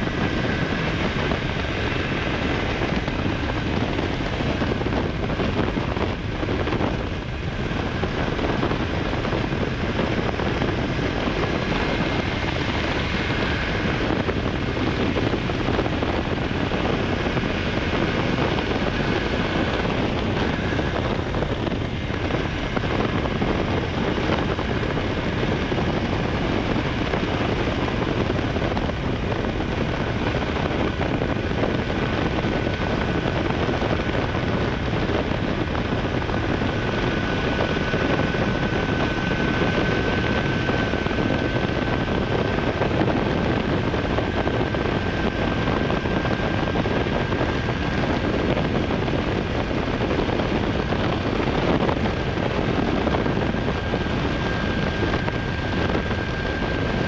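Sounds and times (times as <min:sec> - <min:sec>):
motorcycle engine running: 0:00.0 - 0:57.0
wind on microphone: 0:00.0 - 0:57.0.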